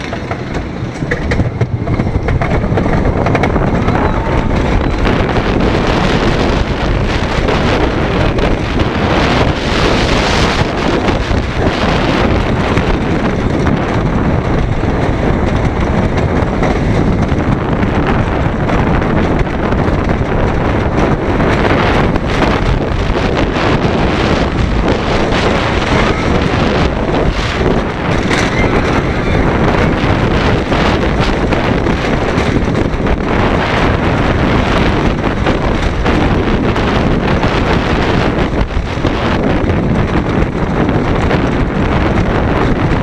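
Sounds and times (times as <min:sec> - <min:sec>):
roller coaster train rumbling: 0:00.0 - 0:43.0
wind buffeting microphone: 0:00.0 - 0:43.0.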